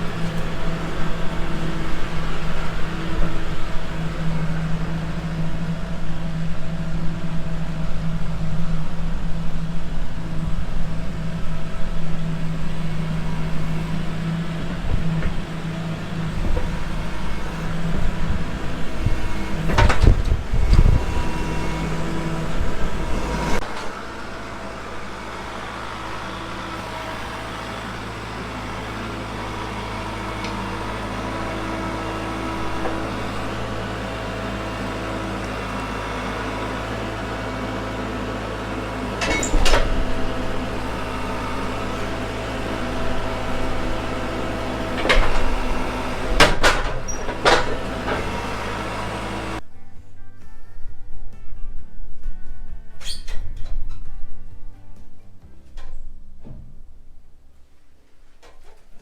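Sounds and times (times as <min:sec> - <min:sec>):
engine humming: 0:00.0 - 0:50.2.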